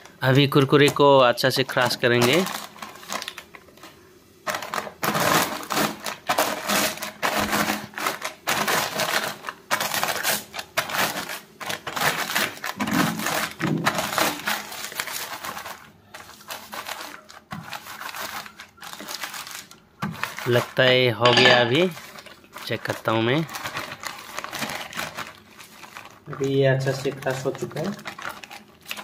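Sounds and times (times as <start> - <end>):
snacks crunching in plastic packet: 0.0 - 29.0.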